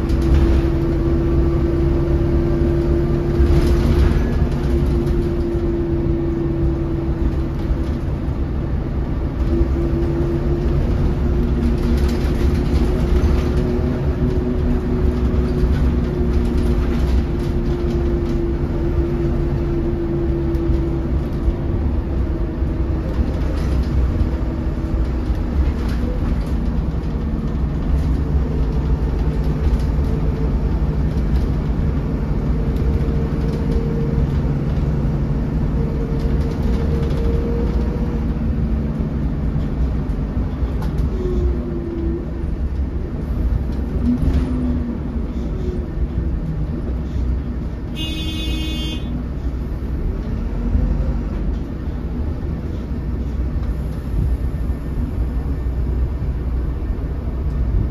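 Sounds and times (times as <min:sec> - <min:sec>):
bus diesel engine: 0:00.0 - 0:57.9
road rumble: 0:00.0 - 0:57.9.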